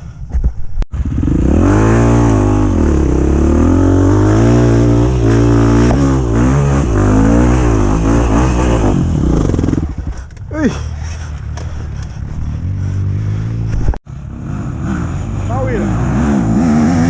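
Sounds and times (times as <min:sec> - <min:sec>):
dirt bike engine revving: 0:00.9 - 0:17.0.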